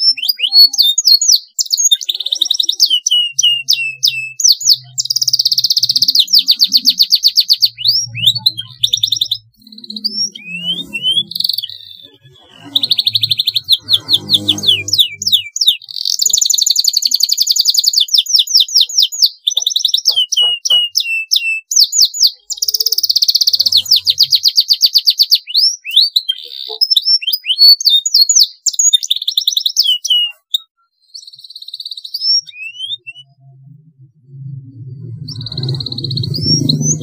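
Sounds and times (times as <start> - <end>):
canary trilling: 0.0 - 37.0.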